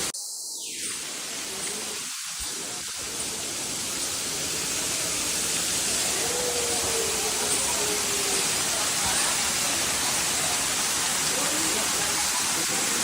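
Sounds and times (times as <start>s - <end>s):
rushing falling water: 0.0s - 13.0s.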